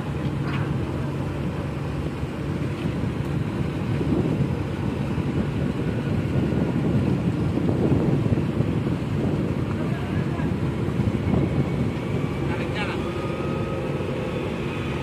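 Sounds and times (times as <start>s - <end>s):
ferry engines rumbling: 0.0s - 15.0s
propeller wash churning water: 0.0s - 15.0s
wind buffeting microphone: 0.0s - 15.0s.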